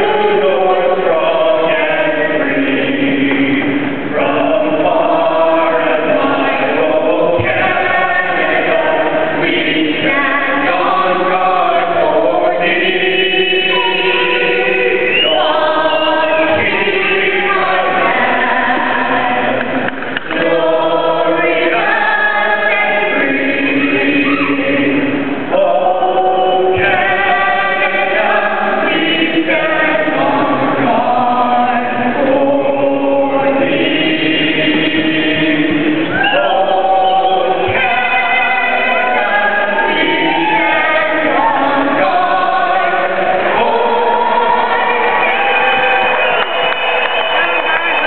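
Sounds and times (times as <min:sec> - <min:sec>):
person singing an anthem: 0:00.0 - 0:46.4.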